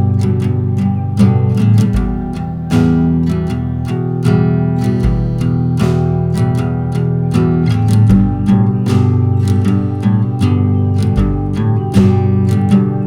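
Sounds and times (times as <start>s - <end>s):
plucked acoustic guitar: 0.0s - 13.0s
steady bass line: 0.0s - 13.0s.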